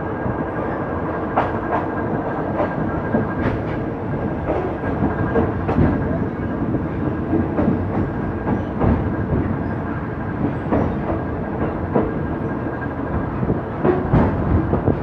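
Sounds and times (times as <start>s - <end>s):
train carriage rumbling: 0.0s - 15.0s
wheels clacking over rail joints: 1.3s - 15.0s.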